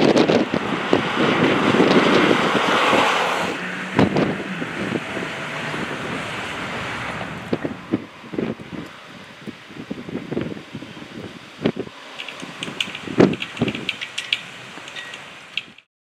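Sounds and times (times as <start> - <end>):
gusty wind buffeting microphone: 0.0 - 15.8.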